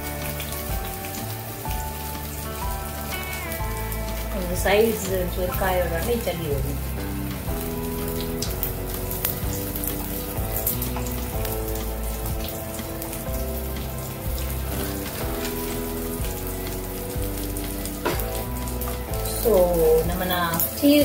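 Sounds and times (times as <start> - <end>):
background music held chords: 0.0 - 21.0
food sizzling in oil: 0.0 - 21.0.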